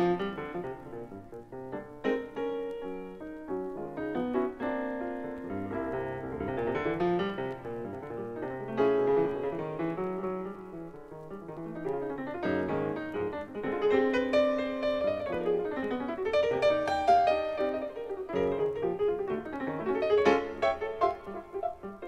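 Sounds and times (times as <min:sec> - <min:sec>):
solo jazz piano: 0:00.0 - 0:22.0.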